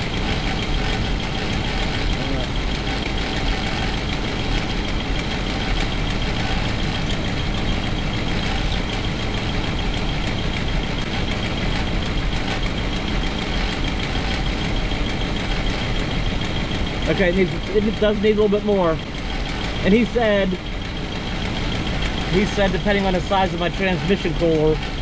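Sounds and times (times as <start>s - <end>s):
engine idling with exhaust leak: 0.0s - 25.0s.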